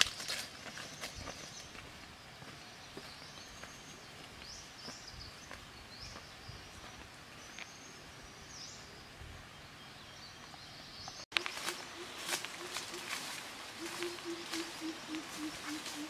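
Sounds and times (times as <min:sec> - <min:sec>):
footsteps on dirt path: 0:00.0 - 0:07.8, 0:10.5 - 0:16.0
faint outdoor ambience: 0:00.0 - 0:16.0
bird chirping: 0:02.5 - 0:16.0.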